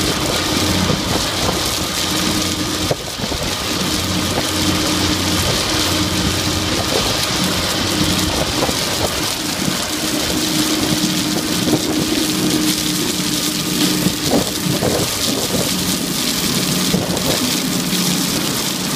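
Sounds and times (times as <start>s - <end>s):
crushed stone pouring: 0.0s - 18.9s
diesel engine drone: 0.0s - 18.9s.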